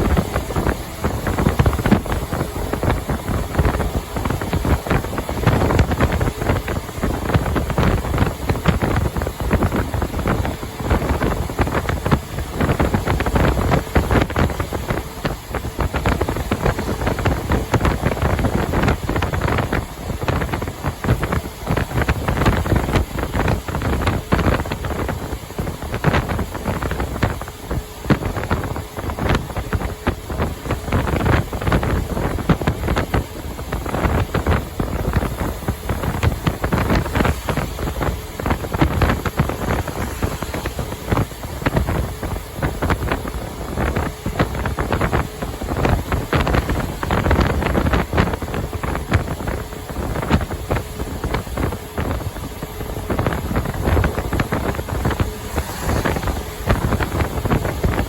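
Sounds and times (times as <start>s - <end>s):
truck road and engine noise: 0.0s - 58.0s
wind buffeting microphone: 0.0s - 58.0s.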